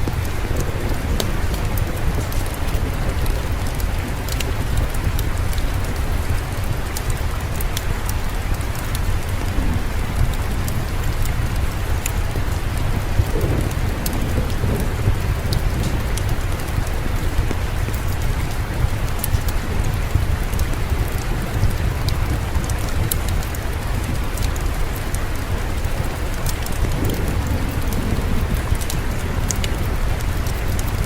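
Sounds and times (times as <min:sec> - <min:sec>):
deep rumble: 0:00.0 - 0:31.0
low murmuring noise: 0:00.0 - 0:31.0
rain falling: 0:00.0 - 0:31.0.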